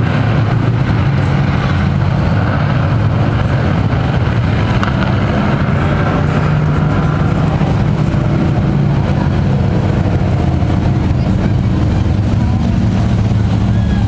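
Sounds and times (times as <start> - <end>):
truck engines running: 0.0 - 14.0.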